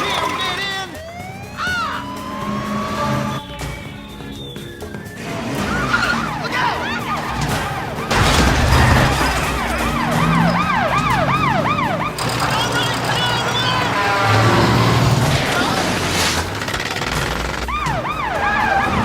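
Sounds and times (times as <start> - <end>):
car engine noise: 0.0 - 19.0
film score music: 0.0 - 19.0
police sirens wailing: 0.0 - 19.0.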